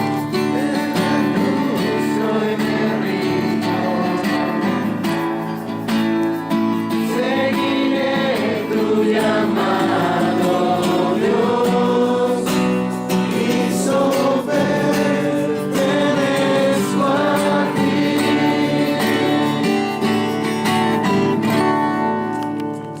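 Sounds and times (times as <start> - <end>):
acoustic guitar: 0.0 - 23.0
group of voices singing: 0.2 - 20.5.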